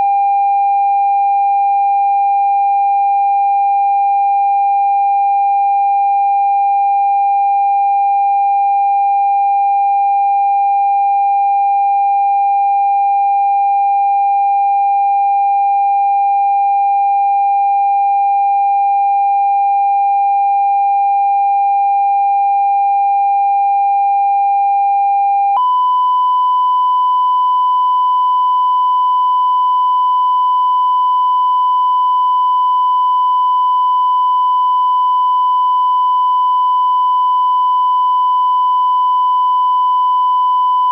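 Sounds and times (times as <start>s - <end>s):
sine wave test tone: 0.0s - 40.9s.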